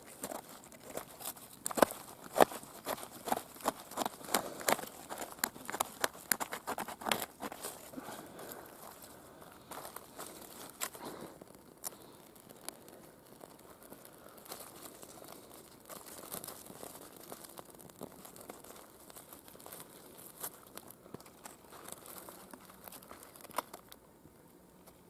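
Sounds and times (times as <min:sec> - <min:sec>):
kindling crackling in campfire: 0:00.0 - 0:25.0.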